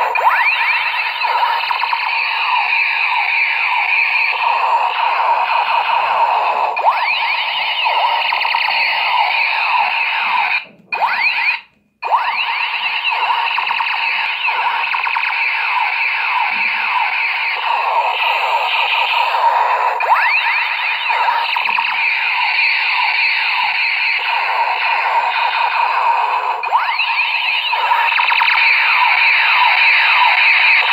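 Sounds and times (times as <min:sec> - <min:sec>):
toy blaster laser sound effects: 0:00.0 - 0:30.9.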